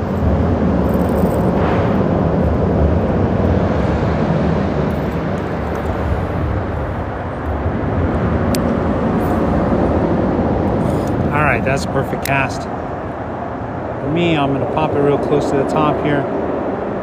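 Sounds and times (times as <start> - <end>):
freeway traffic rumble: 0.0 - 17.0
stream rushing: 0.0 - 17.0.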